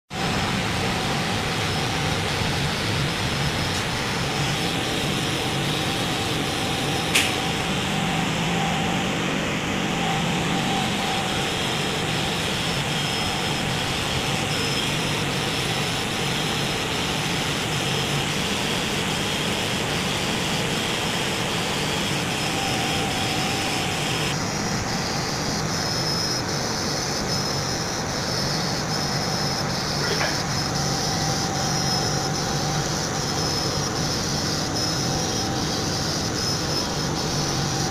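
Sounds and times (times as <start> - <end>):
laser engraver whirring: 0.1 - 37.9.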